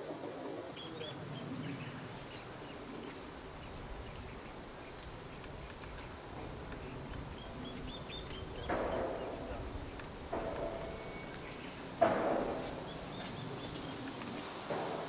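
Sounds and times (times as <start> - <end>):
broad rushing noise: 0.0 - 15.0
songbirds chirping: 0.4 - 14.8.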